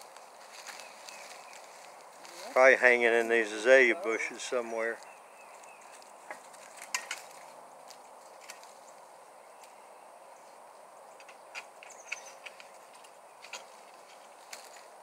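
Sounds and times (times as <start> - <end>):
twigs and dry leaves crackling: 0.0 - 15.0.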